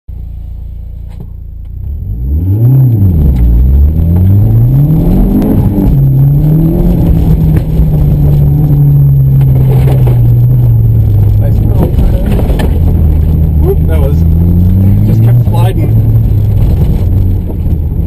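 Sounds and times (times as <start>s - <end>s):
car engine revving and accelerating: 1.1s - 18.0s.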